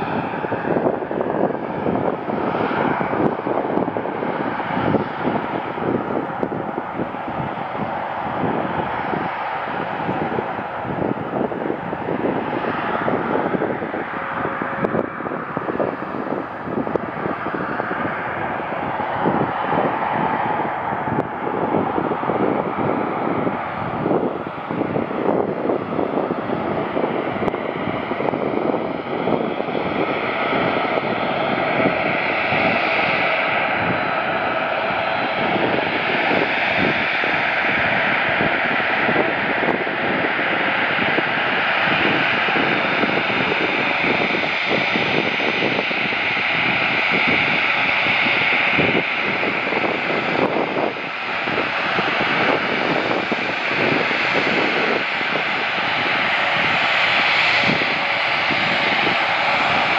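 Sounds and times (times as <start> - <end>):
jet airliner engines rushing: 0.0 - 59.9
wind buffeting microphone: 0.0 - 59.9.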